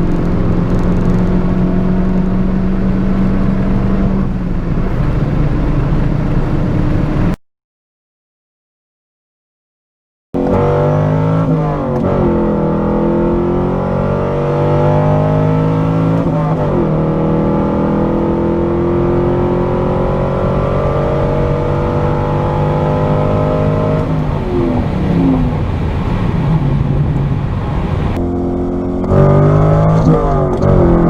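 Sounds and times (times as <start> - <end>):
sports car engine accelerating: 0.0 - 7.4, 10.4 - 31.0.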